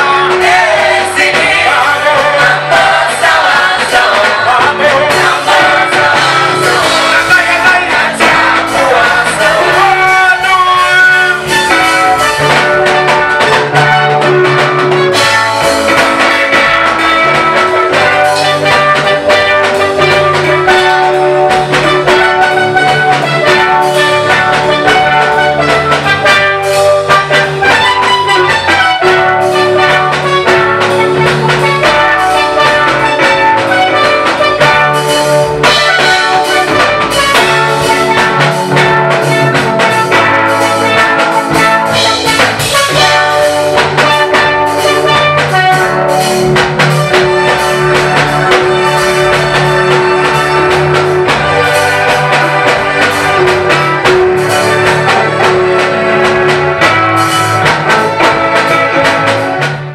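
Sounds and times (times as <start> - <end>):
instrumental music with brass: 0.0 - 59.9.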